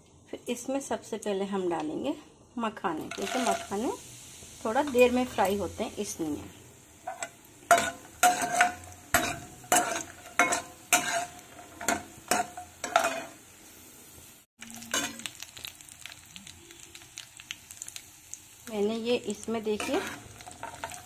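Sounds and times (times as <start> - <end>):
nuts sizzling in oil: 2.9 - 21.0.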